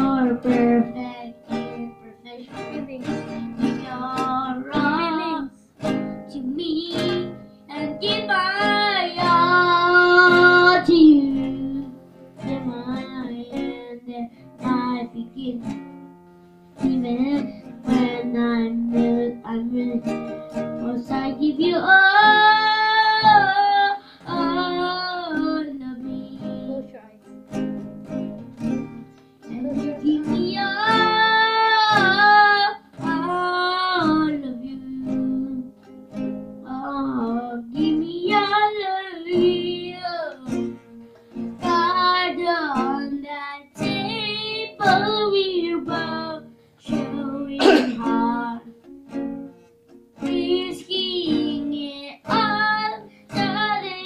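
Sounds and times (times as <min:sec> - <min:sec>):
child singing: 0:00.0 - 0:15.8, 0:16.8 - 0:27.3, 0:29.4 - 0:35.7, 0:36.6 - 0:40.8, 0:41.6 - 0:48.8, 0:50.2 - 0:54.0
acoustic guitar strumming: 0:00.0 - 0:54.0.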